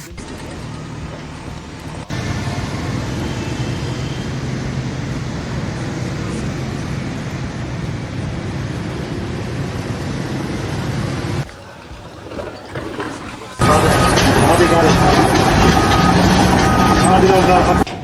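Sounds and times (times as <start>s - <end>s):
engine running with low hum: 0.0s - 11.5s, 13.6s - 17.9s.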